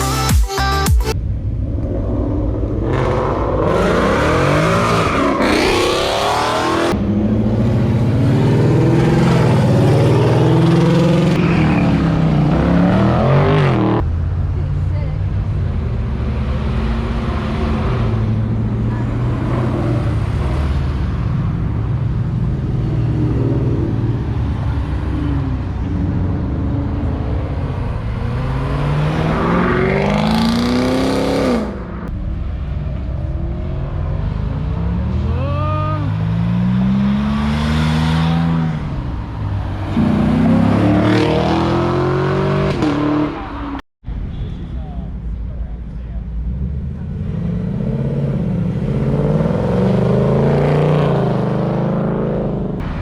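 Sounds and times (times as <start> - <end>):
car engines revving and accelerating: 1.1 - 43.8, 45.2 - 53.0.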